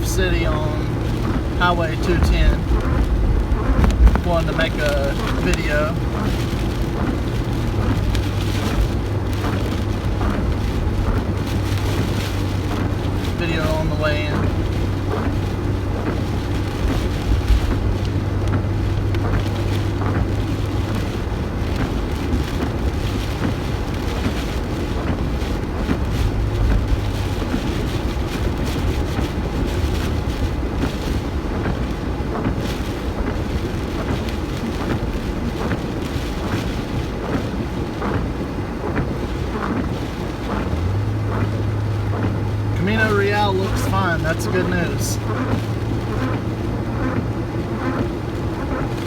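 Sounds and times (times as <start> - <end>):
car engine and road noise: 0.0 - 49.0
wind noise: 0.0 - 49.0.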